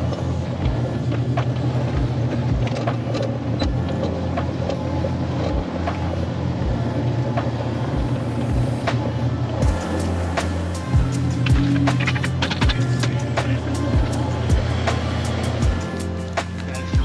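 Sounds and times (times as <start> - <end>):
tracks and bucket clanking: 0.0 - 10.0, 11.0 - 17.0
excavator diesel engine: 0.0 - 17.0.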